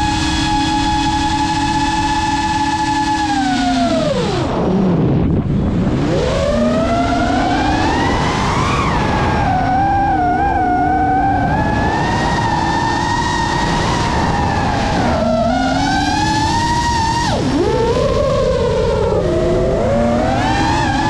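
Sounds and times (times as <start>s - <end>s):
propeller and wind rushing: 0.0s - 21.0s
quadcopter motors whining: 0.0s - 21.0s.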